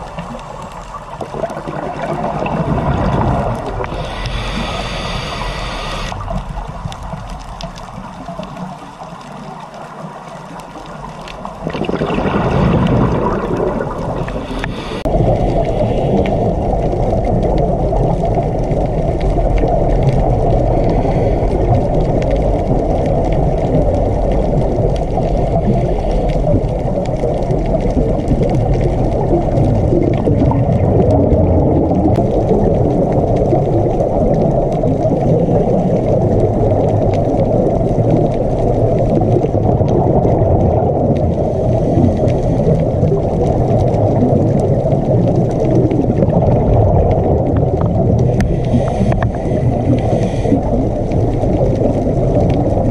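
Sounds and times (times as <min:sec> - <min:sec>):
muffled underwater rushing: 0:00.0 - 0:52.9.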